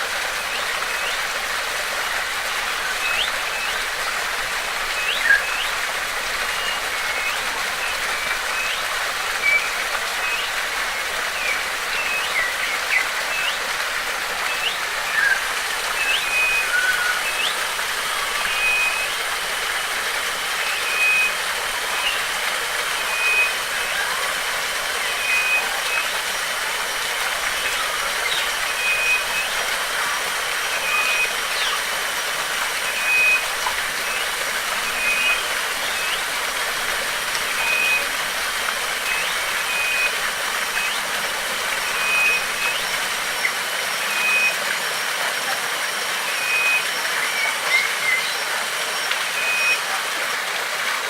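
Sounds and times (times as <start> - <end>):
flowing water rushing: 0.0 - 51.0.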